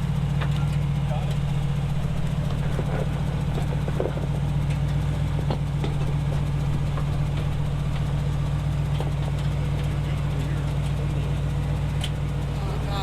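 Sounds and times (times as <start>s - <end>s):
off-road vehicle engine idling: 0.0s - 13.0s.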